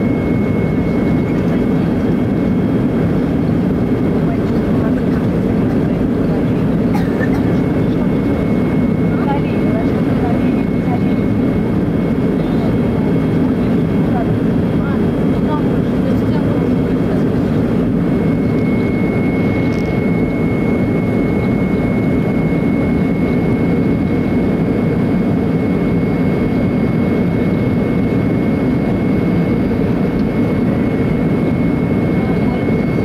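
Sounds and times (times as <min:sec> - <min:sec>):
airliner cabin engine noise: 0:00.0 - 0:33.0
thin steady whine: 0:00.0 - 0:33.0.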